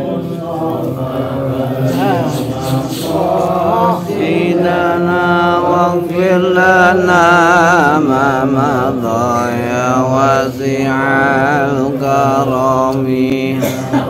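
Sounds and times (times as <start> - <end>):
amplified lead voice chanting: 0.0 - 14.0
men chanting prayers: 0.0 - 14.0.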